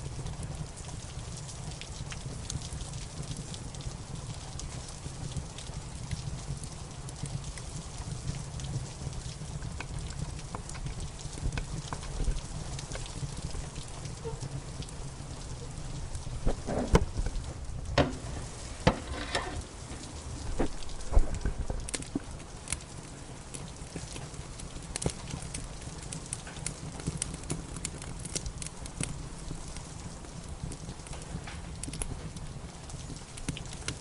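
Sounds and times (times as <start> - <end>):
steady rain: 0.0 - 34.0
wood fire crackling: 0.0 - 34.0.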